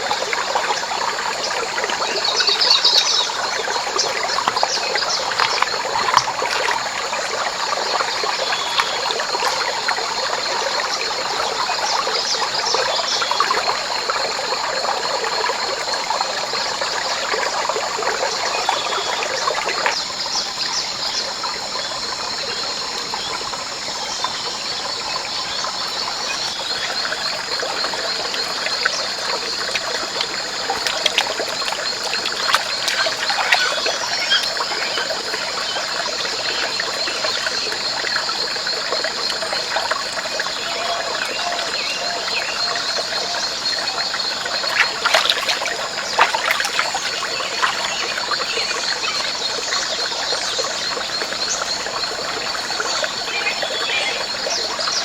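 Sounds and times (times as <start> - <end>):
chorus of rainforest animals: 0.0 - 55.0
water trickling: 0.0 - 55.0.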